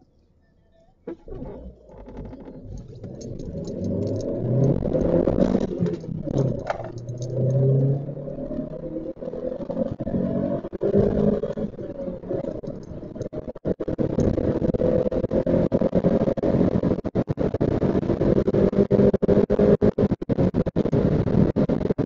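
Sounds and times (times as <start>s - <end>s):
car engine accelerating hard: 1.1s - 22.0s.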